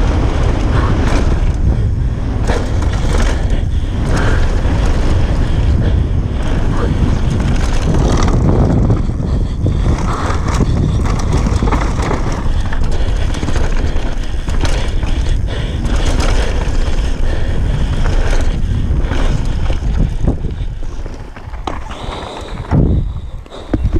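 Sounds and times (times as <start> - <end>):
bike rattling and knocking: 0.0 - 23.9
tyres rolling over dirt: 0.0 - 23.9
wind buffeting microphone: 0.0 - 23.9.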